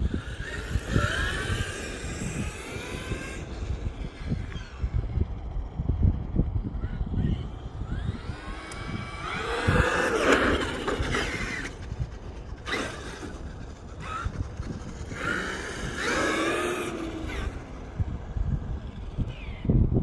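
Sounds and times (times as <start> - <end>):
electric motor whining: 0.0 - 5.8, 6.7 - 19.8
low rumbling noise: 0.0 - 20.0.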